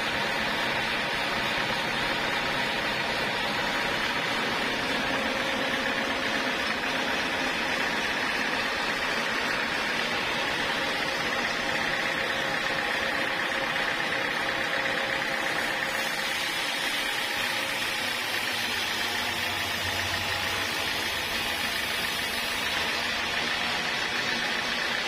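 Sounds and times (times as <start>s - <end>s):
sawmill saw machinery running: 0.0s - 25.0s.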